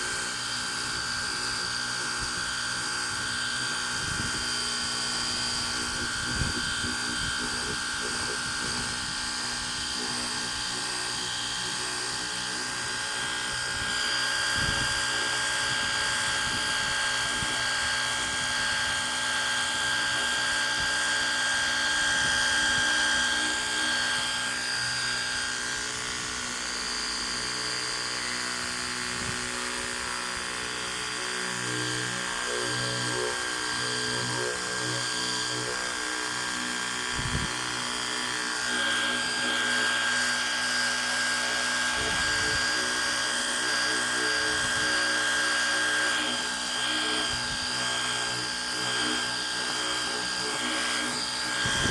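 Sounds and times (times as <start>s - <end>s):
pressure washer pump whining: 0.0s - 51.9s.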